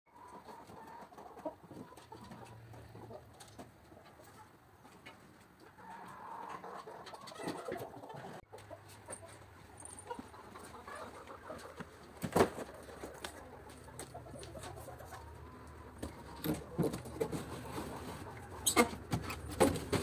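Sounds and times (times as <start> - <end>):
chickens clucking: 0.1 - 20.0.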